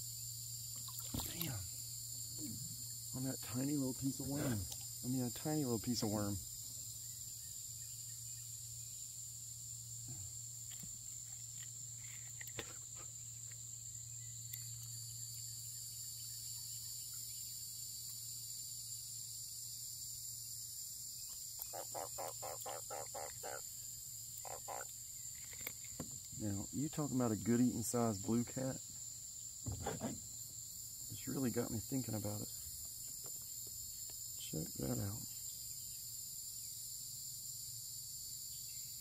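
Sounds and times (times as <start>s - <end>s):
crickets and insects chirping: 0.0s - 39.0s.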